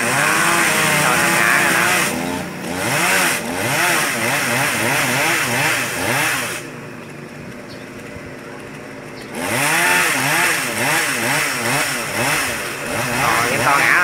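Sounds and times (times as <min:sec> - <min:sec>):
chainsaw cutting branches: 0:00.0 - 0:14.0.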